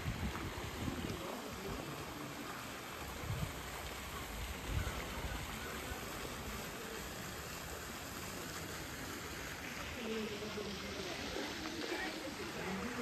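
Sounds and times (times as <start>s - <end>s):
fountains spraying water: 0.0s - 13.0s.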